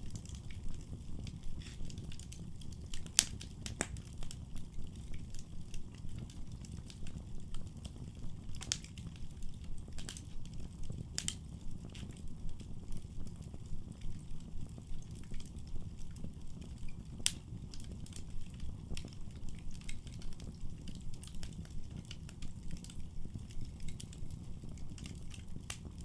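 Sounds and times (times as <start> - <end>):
firewood burning with crackles: 0.0 - 26.0
sharp pops of fire: 0.0 - 26.0.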